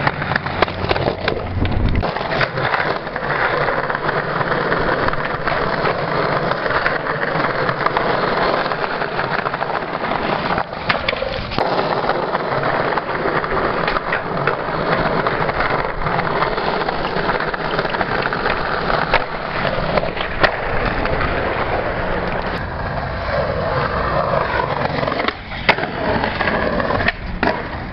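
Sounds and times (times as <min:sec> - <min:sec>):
skateboard clacks: 0:00.0 - 0:27.9
skateboard wheels rolling: 0:00.0 - 0:27.9.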